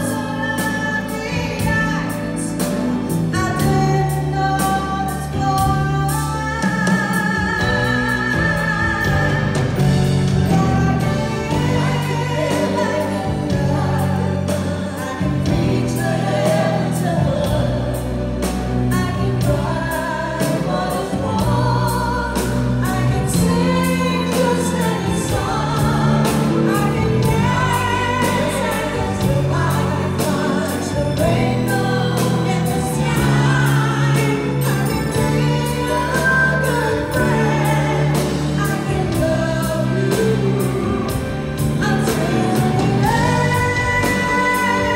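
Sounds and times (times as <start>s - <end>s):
bass notes: 0.0s - 44.9s
steady drum beat: 0.0s - 44.9s
woman singing pop ballad: 0.0s - 44.9s.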